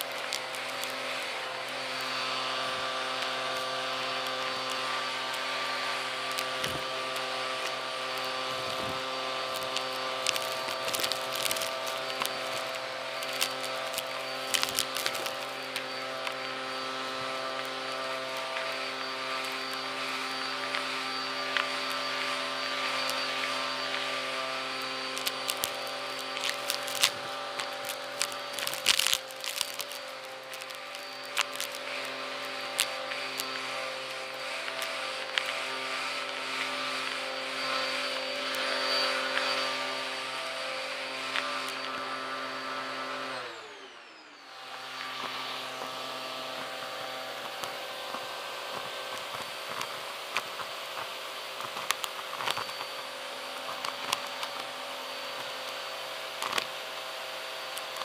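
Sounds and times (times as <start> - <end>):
debris clicking up hose: 0.0 - 42.1, 46.5 - 53.0
vacuum cleaner motor whining: 0.0 - 58.0.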